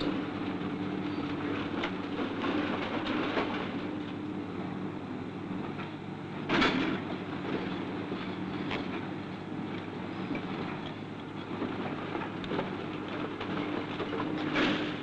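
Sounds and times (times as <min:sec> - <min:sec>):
rail vehicle rumbling: 0:00.0 - 0:15.0.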